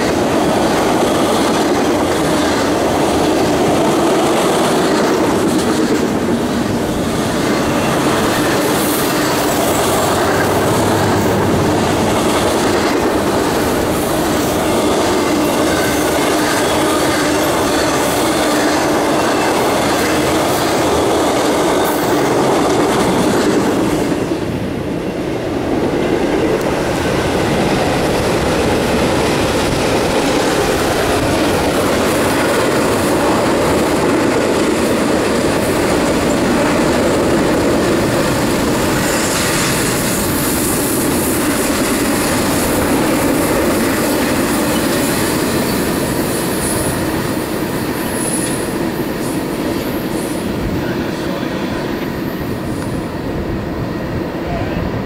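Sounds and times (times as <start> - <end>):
steel wheels on track: 0.0 - 24.4, 26.2 - 53.2.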